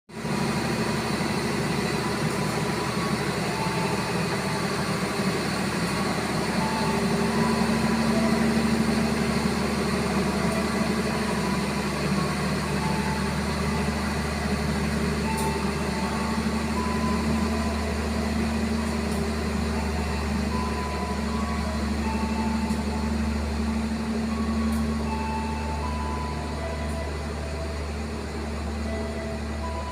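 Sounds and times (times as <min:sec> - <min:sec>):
diesel locomotive drone: 0:00.1 - 0:29.9.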